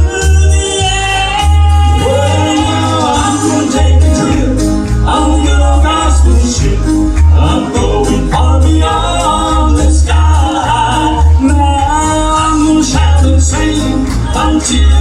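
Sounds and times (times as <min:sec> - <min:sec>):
guitar: 0:00.0 - 0:15.0
person singing: 0:00.0 - 0:15.0
pulsing bass beat: 0:00.0 - 0:15.0.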